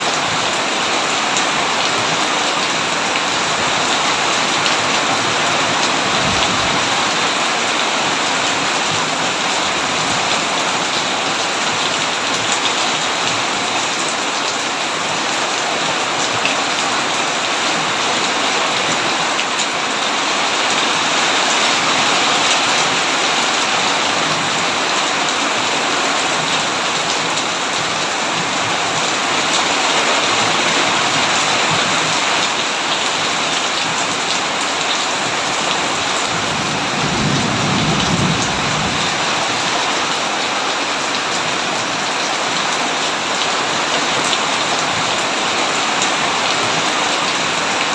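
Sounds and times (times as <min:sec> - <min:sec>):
heavy rain on a tin roof: 0:00.0 - 0:47.9.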